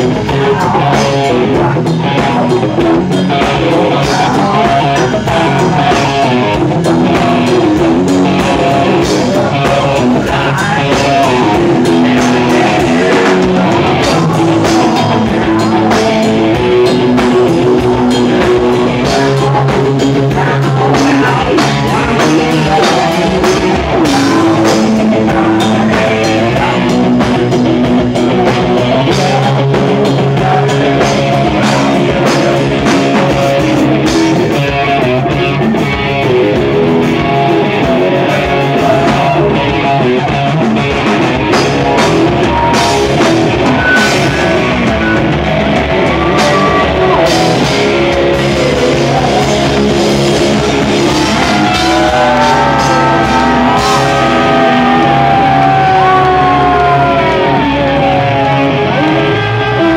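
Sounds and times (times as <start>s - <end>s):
drum kit: 0.0s - 59.9s
electric guitar: 0.0s - 59.9s
rock band playing live: 0.0s - 59.9s.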